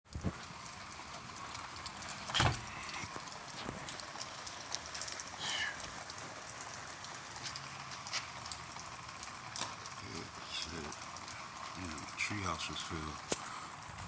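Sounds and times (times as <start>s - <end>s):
sharp raindrops striking surfaces: 0.1s - 14.0s
steady rain falling: 0.1s - 14.0s.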